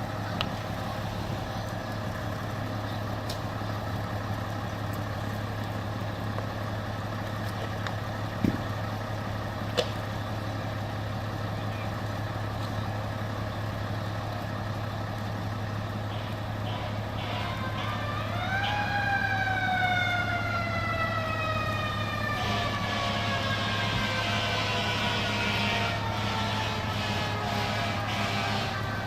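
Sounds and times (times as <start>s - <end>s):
fire engine siren: 0.0s - 29.0s
low engine rumble: 0.0s - 29.0s.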